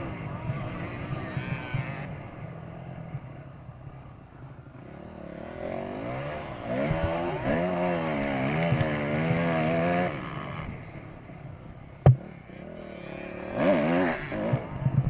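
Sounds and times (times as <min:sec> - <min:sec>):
dirt bike engine revving: 0:00.0 - 0:04.1, 0:04.7 - 0:15.0.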